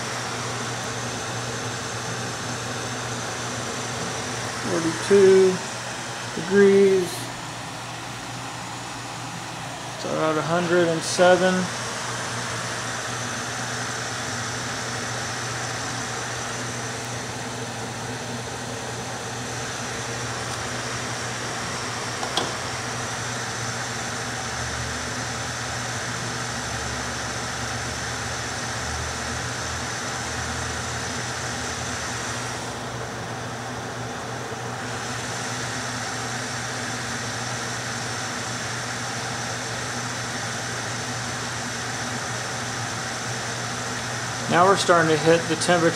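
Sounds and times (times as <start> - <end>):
small fan whirring through duct: 0.0 - 45.9.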